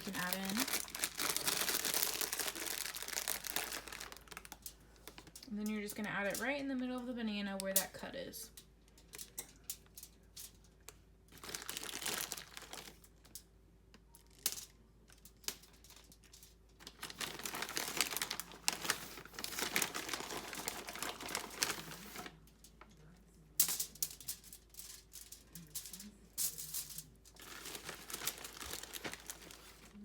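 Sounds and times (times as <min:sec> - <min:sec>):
wrapping crinkling and rustling: 0:00.0 - 0:07.9, 0:09.0 - 0:30.0.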